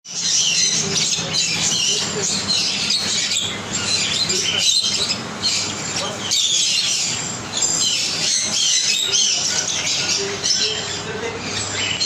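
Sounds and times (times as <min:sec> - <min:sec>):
parrots chirping and squawking: 0:00.1 - 0:12.0.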